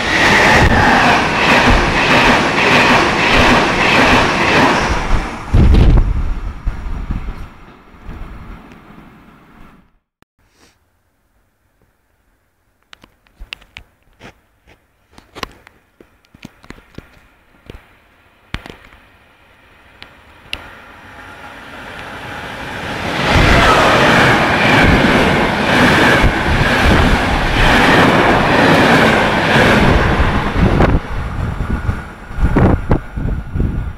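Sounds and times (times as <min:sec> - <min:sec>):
train passing on rails: 0:00.0 - 0:10.0, 0:16.6 - 0:33.9.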